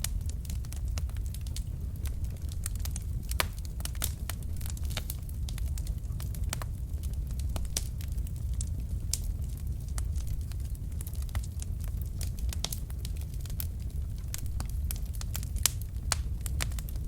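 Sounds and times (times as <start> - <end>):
logs crackling in fireplace: 0.0 - 17.0.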